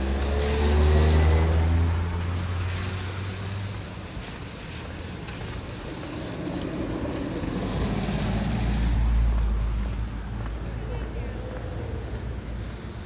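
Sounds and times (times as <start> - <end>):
vehicle engine hum: 0.0 - 13.0
wet road noise hiss: 0.0 - 13.0.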